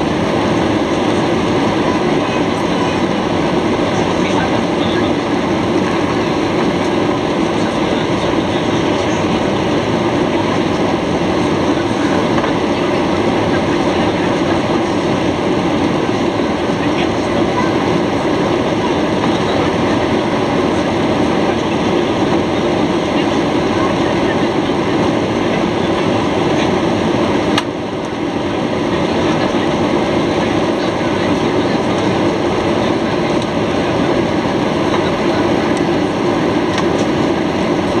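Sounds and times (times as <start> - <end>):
jet engines in airplane cabin: 0.0 - 38.0.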